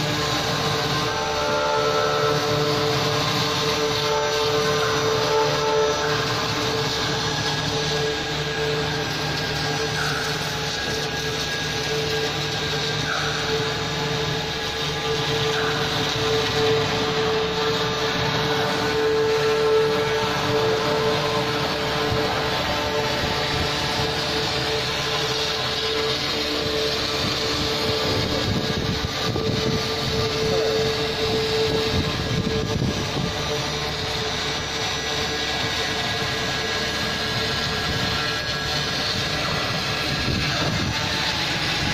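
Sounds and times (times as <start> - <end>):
router spindle whining: 0.0 - 41.9.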